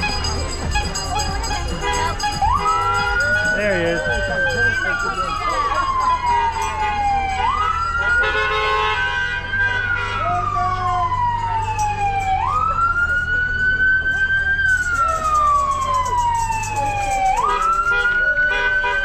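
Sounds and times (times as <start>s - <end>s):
cars idling rumble: 0.0s - 19.0s
siren wailing: 0.0s - 19.0s.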